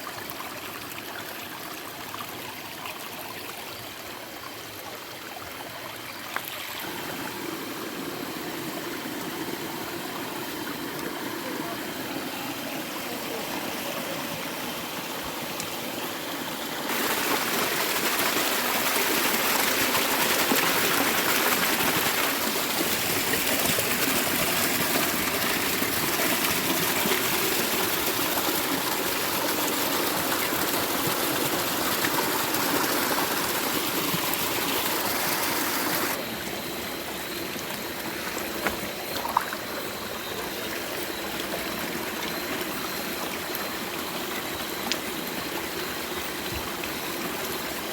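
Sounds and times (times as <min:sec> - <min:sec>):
creek water over stones: 0:00.0 - 0:47.9.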